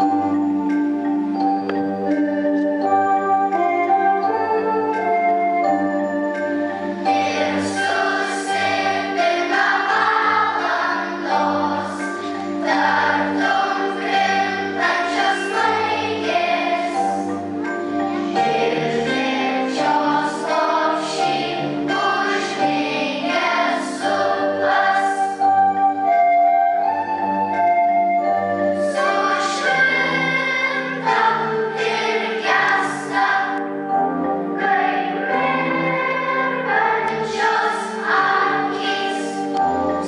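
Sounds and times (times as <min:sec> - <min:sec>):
children's choir singing: 0:00.0 - 0:00.5, 0:06.4 - 0:27.0, 0:28.7 - 0:40.0
held instrumental chords: 0:00.0 - 0:40.0.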